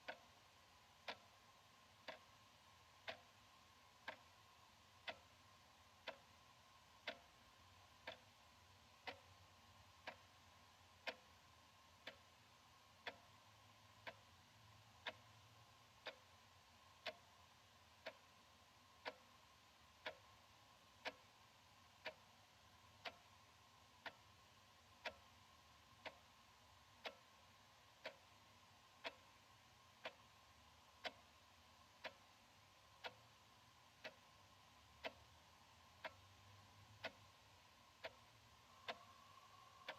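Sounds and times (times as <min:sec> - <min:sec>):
wall clock ticking: 0:00.0 - 0:39.9.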